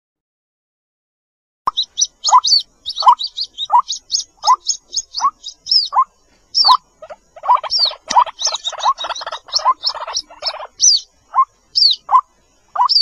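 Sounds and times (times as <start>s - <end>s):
chicks peeping: 1.7s - 13.0s
waterhen rising call: 1.7s - 13.0s.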